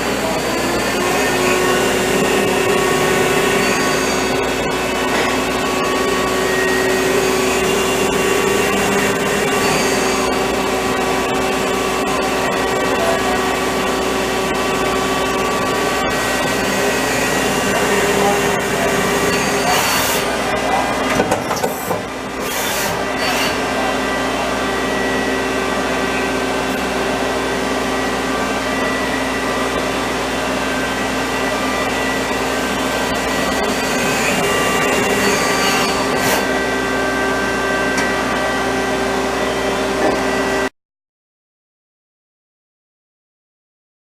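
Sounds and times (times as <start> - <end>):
lathe machine whine and hum: 0.0 - 40.7.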